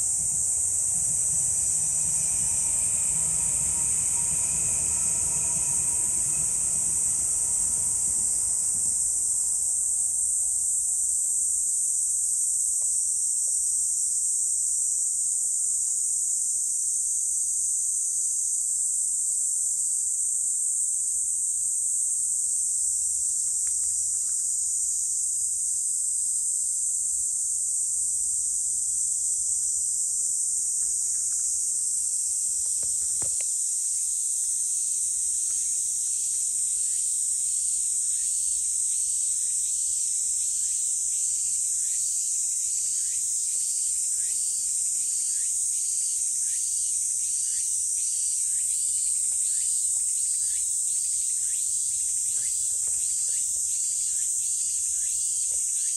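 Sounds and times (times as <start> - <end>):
cicadas droning: 0.0 - 55.9
pulsing cicada call: 0.0 - 55.9.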